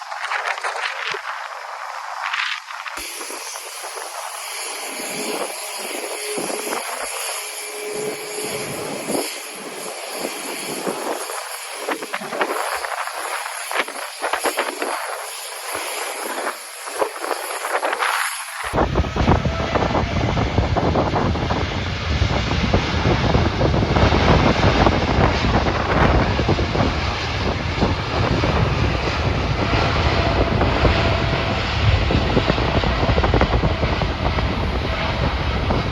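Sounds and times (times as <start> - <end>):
jet engines whining: 0.0 - 35.9.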